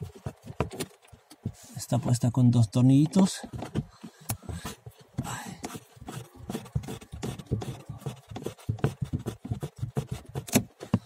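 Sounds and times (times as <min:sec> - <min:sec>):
handling rubbing and scraping: 0:00.0 - 0:11.0.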